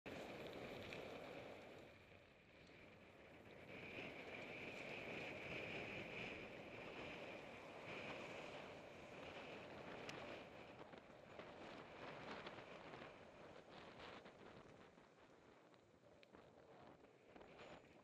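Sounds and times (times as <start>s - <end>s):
bike tyres rolling on dirt: 0.1s - 18.0s
wind on microphone: 3.2s - 18.0s.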